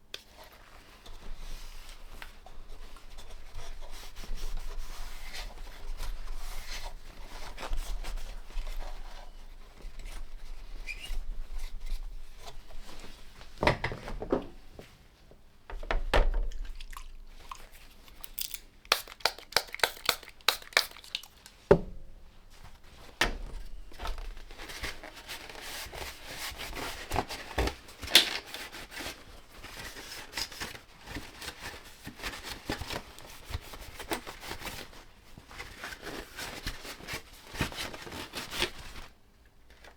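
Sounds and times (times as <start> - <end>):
rubbing and crinkling of wiping: 0.2 - 13.6, 19.2 - 39.9.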